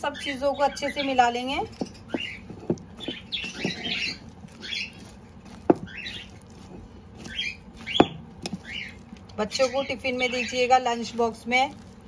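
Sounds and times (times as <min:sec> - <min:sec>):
fork stirring wet food: 0:01.0 - 0:12.0.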